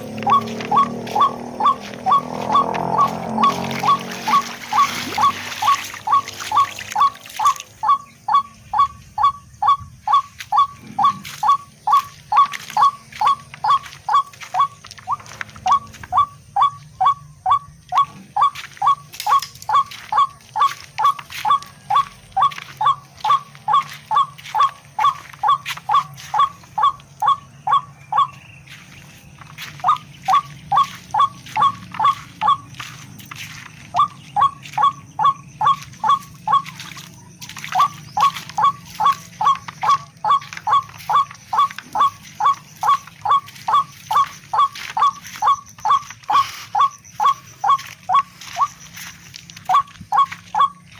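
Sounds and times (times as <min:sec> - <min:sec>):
rail bird calling: 0:00.0 - 0:50.9.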